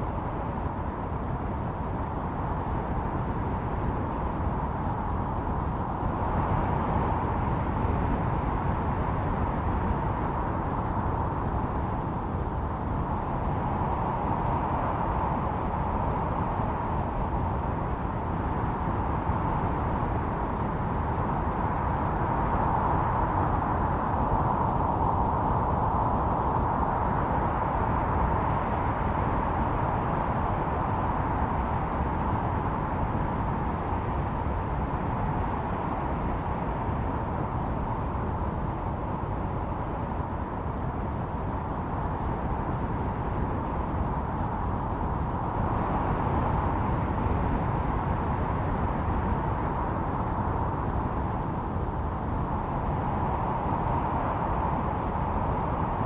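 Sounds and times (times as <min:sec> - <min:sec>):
howling blizzard wind: 0:00.0 - 0:56.0.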